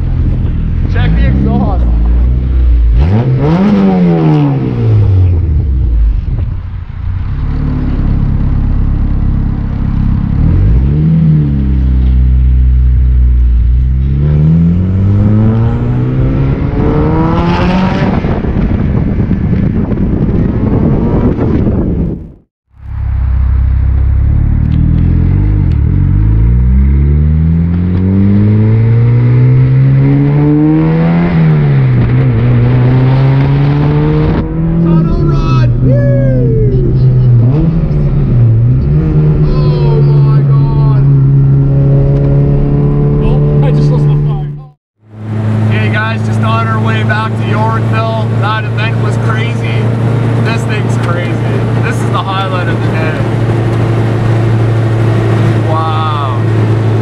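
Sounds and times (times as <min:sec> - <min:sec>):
car engine revving through gears: 0:00.9 - 0:05.9, 0:09.4 - 0:22.1, 0:24.3 - 0:35.9, 0:37.0 - 0:57.0.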